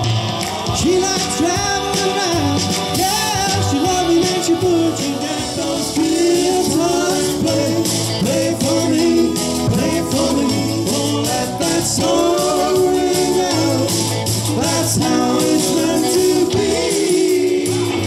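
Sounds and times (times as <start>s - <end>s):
loud rock and roll music: 0.0s - 18.0s.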